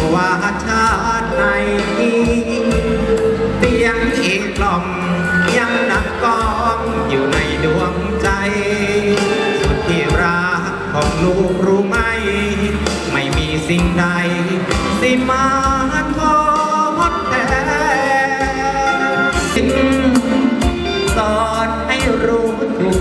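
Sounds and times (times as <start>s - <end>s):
backing band with drum beat: 0.0s - 23.0s
person singing with vibrato: 0.0s - 23.0s.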